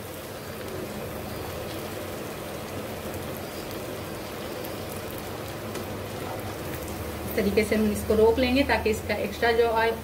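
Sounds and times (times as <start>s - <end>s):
fat sizzling and crackling: 0.0s - 10.0s.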